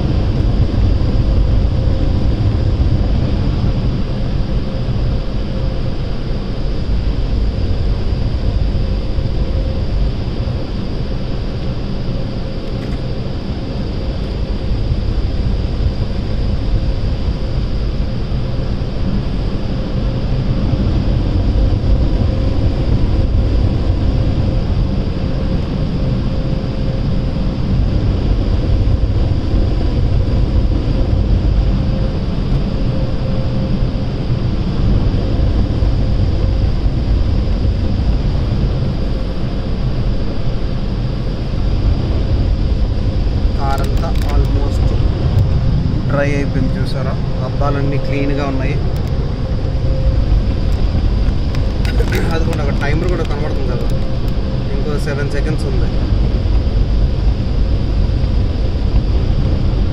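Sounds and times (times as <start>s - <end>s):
faint steady whine: 0.0s - 59.9s.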